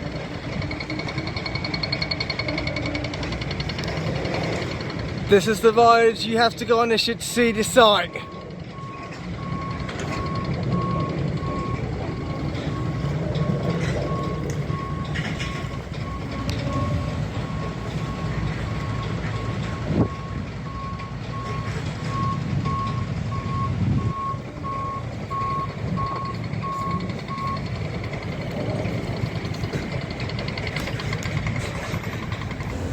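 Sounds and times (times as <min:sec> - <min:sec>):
diesel engine running: 0:00.0 - 0:32.9
reversing alarm beeping: 0:00.0 - 0:32.9.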